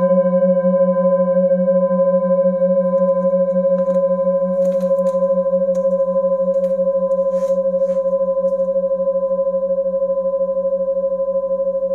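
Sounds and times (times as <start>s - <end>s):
singing bowls ringing: 0.0s - 11.9s.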